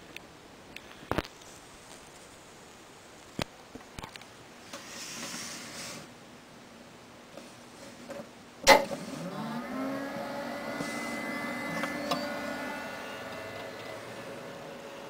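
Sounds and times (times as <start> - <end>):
computer fans whirring: 0.0 - 15.0.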